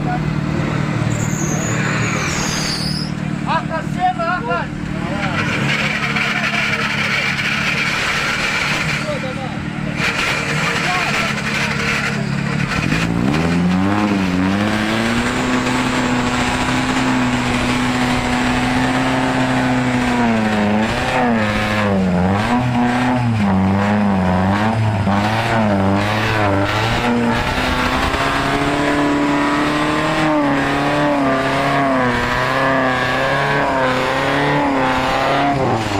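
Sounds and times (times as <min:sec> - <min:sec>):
vehicle engine revving hard: 0:05.0 - 0:35.9.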